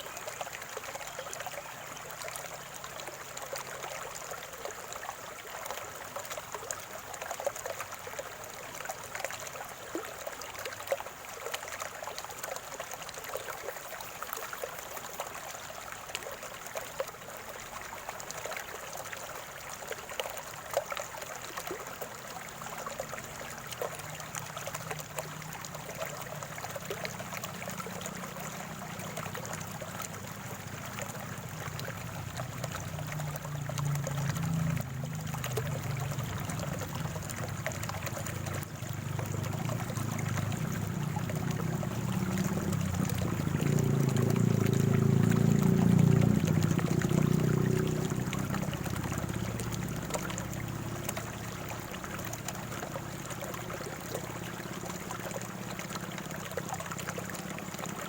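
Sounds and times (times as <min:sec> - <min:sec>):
water trickling in a stream: 0:00.0 - 0:58.0.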